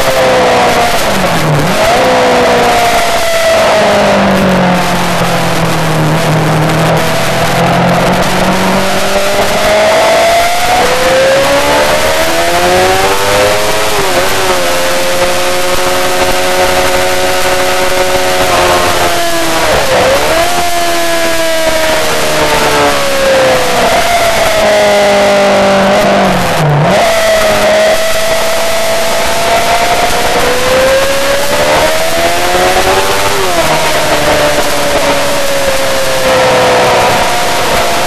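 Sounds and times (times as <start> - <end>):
sport bike engine accelerating: 0.0 - 38.0.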